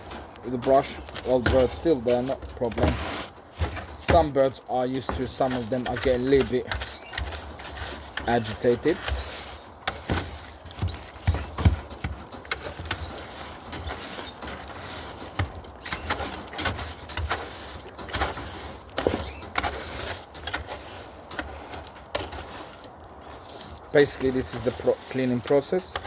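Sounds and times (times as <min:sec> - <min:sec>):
brush scrubbing wire cage: 0:00.0 - 0:26.0
knocks and scrapes on bars: 0:00.0 - 0:26.0.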